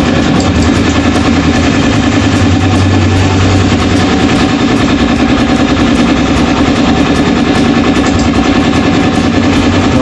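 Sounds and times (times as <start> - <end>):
motor-driven machine pulsing throb: 0.0 - 10.0.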